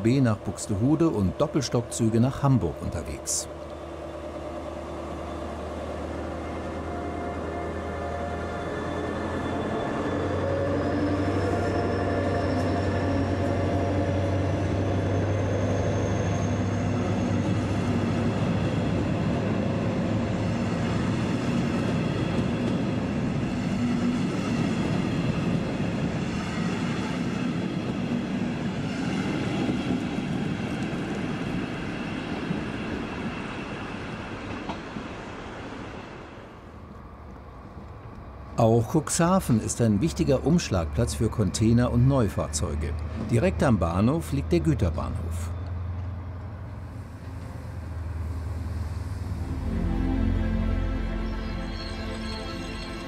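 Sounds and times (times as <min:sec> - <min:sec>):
train wheels rumbling on rails: 0:00.0 - 0:49.9
locomotive traction whine: 0:00.0 - 0:53.0.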